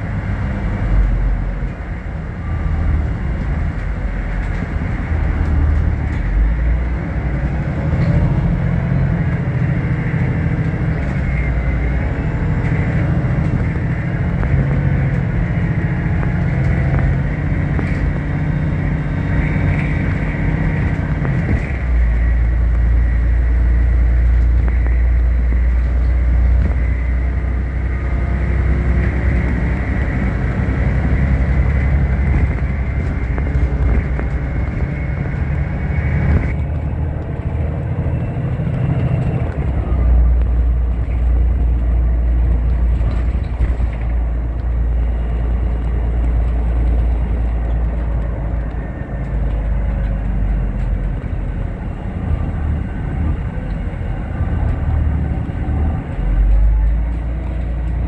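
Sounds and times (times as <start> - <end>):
bus engine rumble: 0.0 - 58.0
road noise: 0.0 - 58.0.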